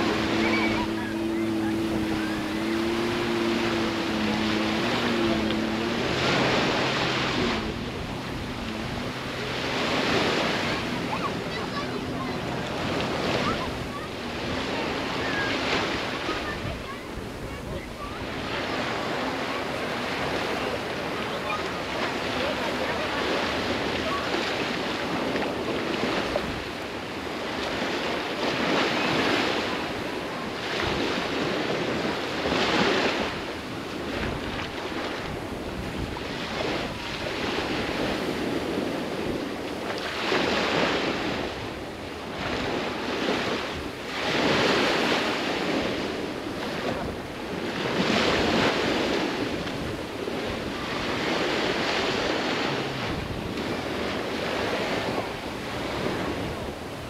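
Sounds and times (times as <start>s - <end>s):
surf breaking on beach: 0.0s - 57.0s
wind: 0.0s - 57.0s.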